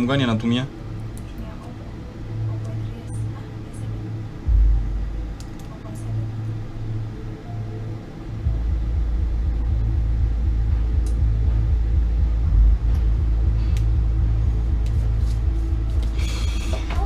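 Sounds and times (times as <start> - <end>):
low pulsing rumble: 0.0 - 17.0.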